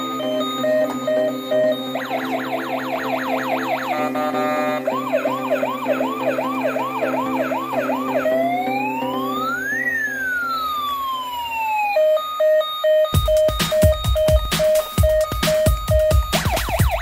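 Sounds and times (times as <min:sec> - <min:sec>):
toy electronic siren: 0:00.0 - 0:17.0.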